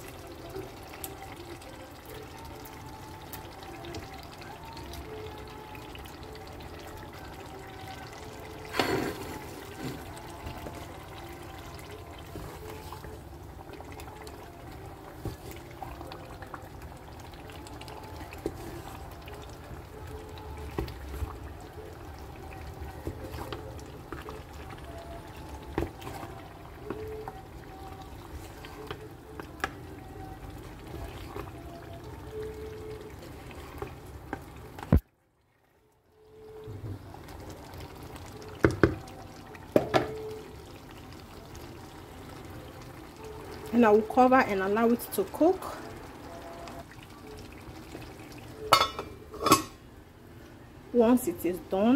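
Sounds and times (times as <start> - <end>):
stew bubbling in a pot: 0.0 - 51.9.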